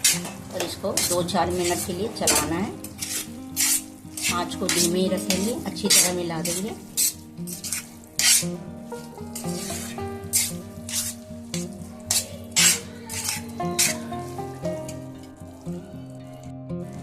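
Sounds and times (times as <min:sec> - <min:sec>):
spoon scraping a pan: 0:00.0 - 0:15.4
background music: 0:00.0 - 0:17.0
sizzling in ghee: 0:00.0 - 0:17.0.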